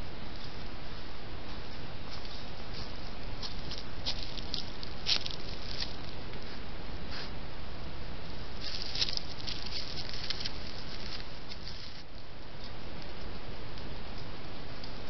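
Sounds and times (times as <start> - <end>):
deer rustling and crackling: 0.0 - 7.4, 8.3 - 15.0
steady background hiss: 0.0 - 15.0.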